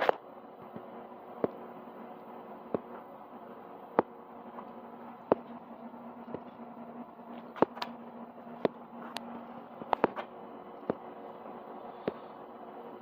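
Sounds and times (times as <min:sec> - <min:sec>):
heater blower whir: 0:00.0 - 0:13.0
low hum: 0:00.0 - 0:13.0.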